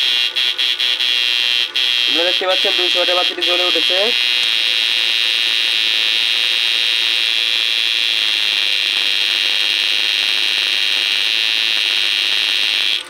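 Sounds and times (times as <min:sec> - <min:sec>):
inverter high-pitched whine: 0:00.0 - 0:13.0.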